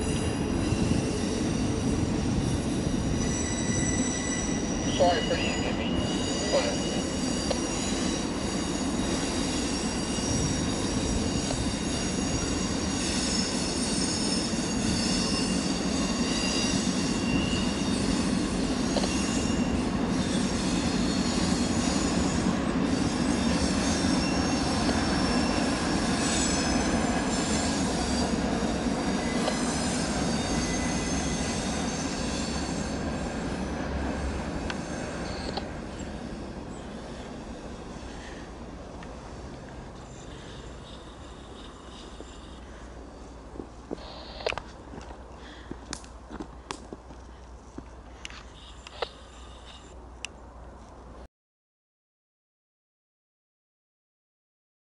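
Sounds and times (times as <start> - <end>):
high wheel squeal: 0.0 - 44.8
freight train wheels rumbling: 0.0 - 51.0.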